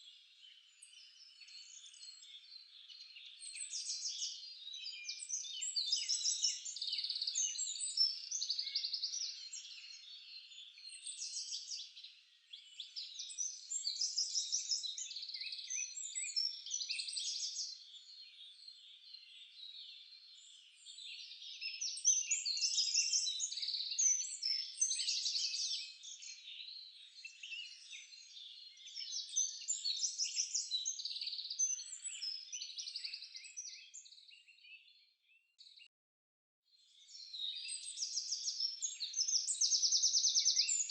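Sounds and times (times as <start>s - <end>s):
songbirds chirping and trilling: 0.0s - 35.9s, 36.7s - 40.9s.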